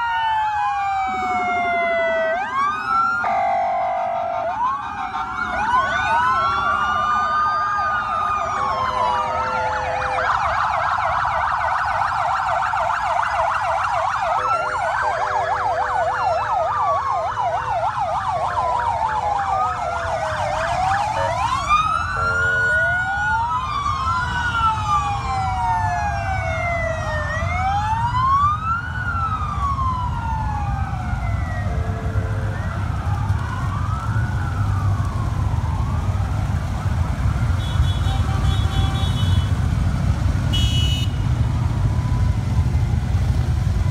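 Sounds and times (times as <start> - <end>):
motorcycle engines rumbling: 0.0 - 43.9
police sirens wailing and yelping: 0.0 - 43.9.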